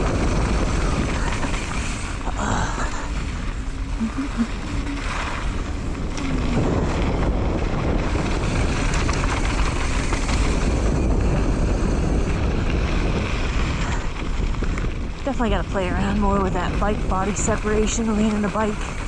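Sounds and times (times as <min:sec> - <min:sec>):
mountain bike rattling on trail: 0:00.0 - 0:19.0
wind rushing over microphone: 0:00.0 - 0:19.0.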